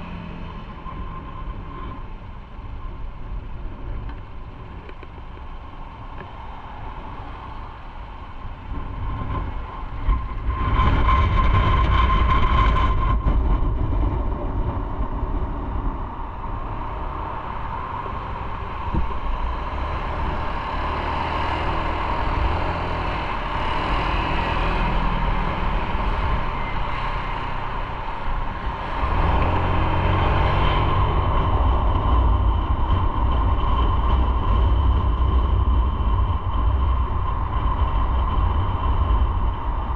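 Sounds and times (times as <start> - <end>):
motorcycle engine rumble: 0.0 - 39.9
wind and road noise: 0.0 - 39.9.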